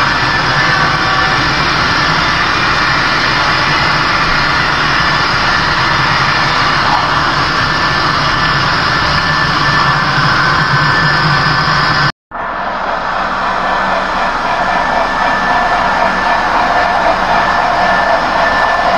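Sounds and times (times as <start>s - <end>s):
model train rumbling: 0.0s - 18.9s.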